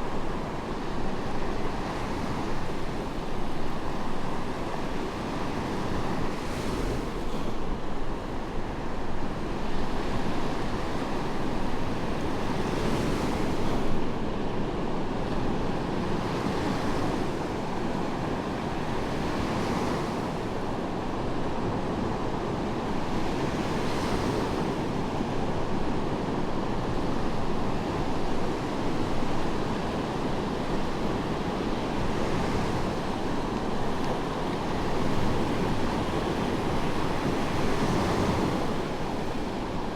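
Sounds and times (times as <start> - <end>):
waves crashing on beach: 0.0 - 39.9.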